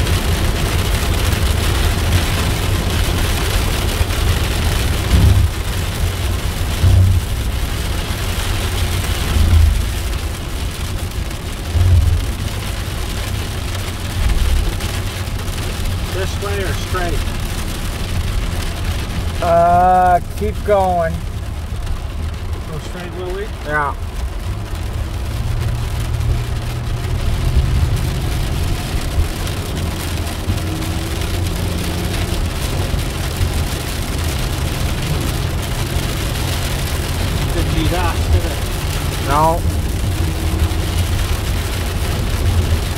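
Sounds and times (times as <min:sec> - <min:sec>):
car road and engine rumble: 0:00.0 - 0:42.9
rain hiss: 0:00.0 - 0:42.9.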